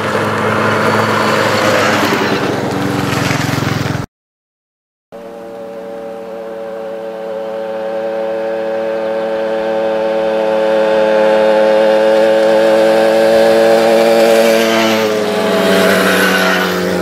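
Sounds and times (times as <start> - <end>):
moped engines buzzing: 0.0 - 4.1, 5.2 - 17.0.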